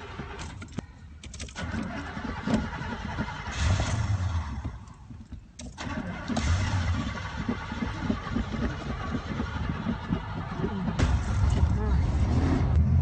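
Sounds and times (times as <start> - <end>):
car engine cranking: 0.0 - 13.0.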